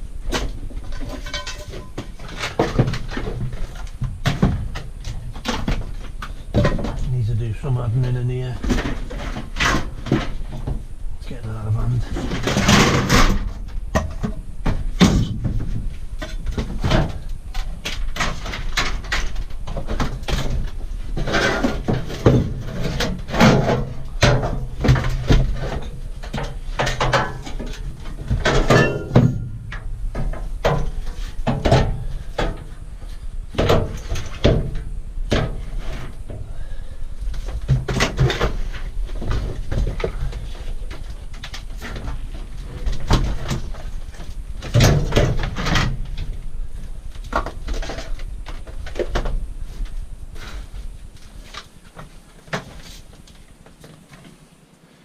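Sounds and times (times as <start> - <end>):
low hum: 0.0 - 52.4
scrap metal clanking and scraping: 0.3 - 52.0.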